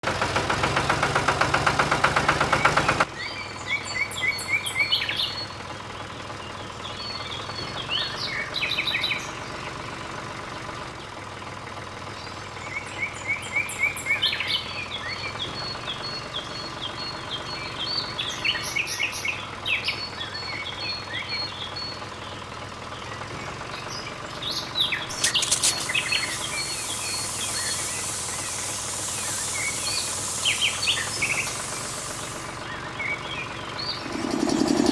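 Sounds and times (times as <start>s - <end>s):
songbirds chirping: 2.6s - 10.0s, 12.0s - 34.9s.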